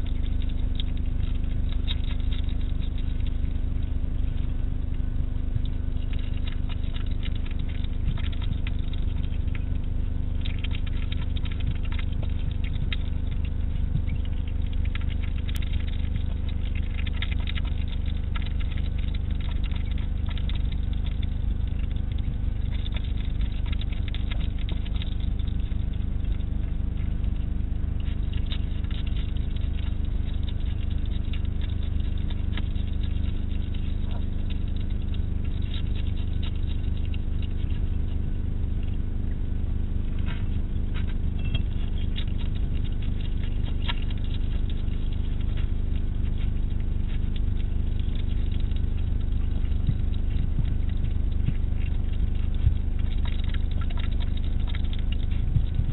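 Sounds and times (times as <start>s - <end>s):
animal chewing wet clicks: 0.0s - 55.9s
low hum: 0.0s - 55.9s.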